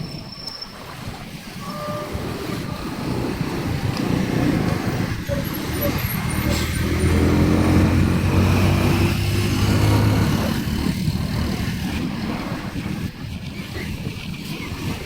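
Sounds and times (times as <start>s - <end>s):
road traffic noise: 0.0s - 15.0s
low engine drone: 1.1s - 13.9s.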